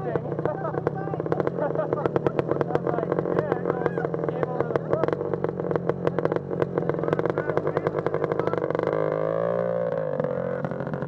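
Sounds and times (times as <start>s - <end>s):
small vehicle engine ticking: 0.0s - 11.0s.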